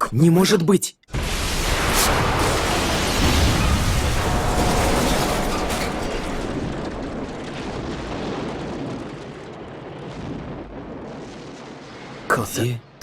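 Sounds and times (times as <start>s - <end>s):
cartoon explosion rumble: 1.1s - 11.8s.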